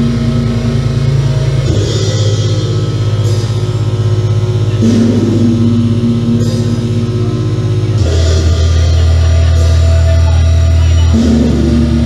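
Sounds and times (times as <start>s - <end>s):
electronic drone music: 0.0s - 12.0s.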